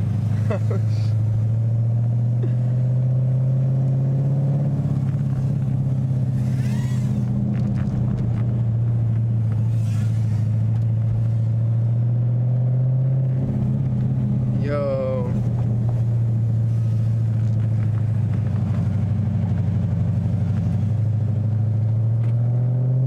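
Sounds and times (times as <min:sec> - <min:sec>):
car engine running at low speed: 0:00.0 - 0:23.0.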